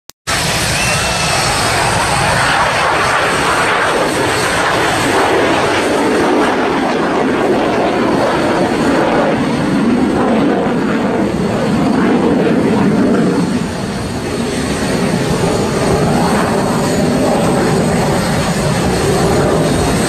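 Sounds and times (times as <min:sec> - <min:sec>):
jet engine roar: 0:00.2 - 0:20.0.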